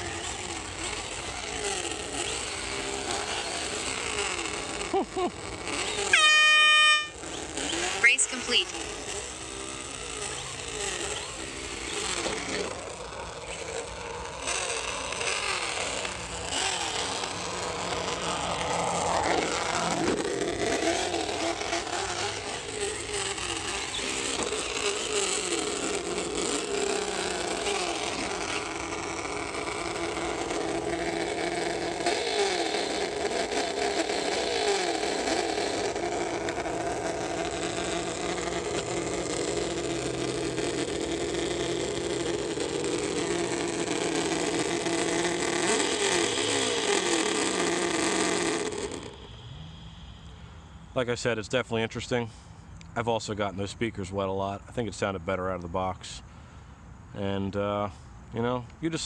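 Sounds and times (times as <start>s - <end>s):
recorded truck engine from speakers: 0.0s - 59.0s
steady noise from rc truck: 0.0s - 59.0s.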